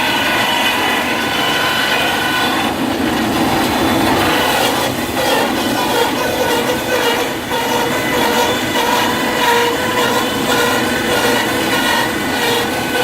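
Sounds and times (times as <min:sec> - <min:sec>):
wood crusher whining: 0:00.0 - 0:13.0.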